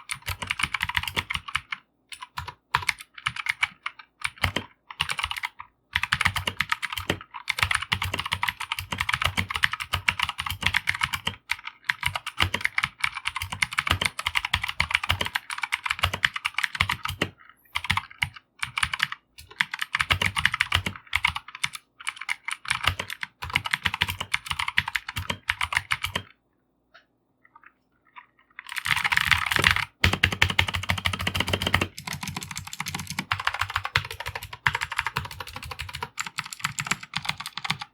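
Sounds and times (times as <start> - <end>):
fast typing on mechanical keyboard: 0.0 - 26.3, 28.6 - 37.9.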